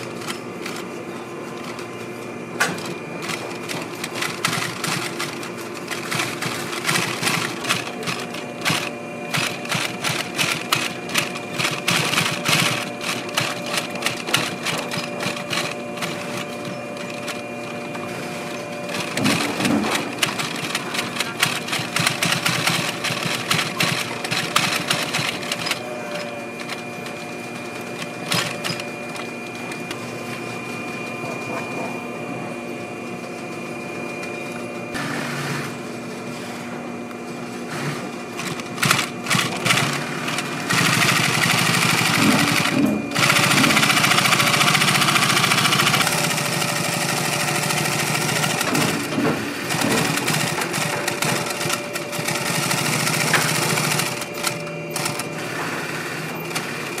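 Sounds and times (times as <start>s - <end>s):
industrial sewing machine stitching: 2.6s - 31.5s, 37.7s - 57.0s.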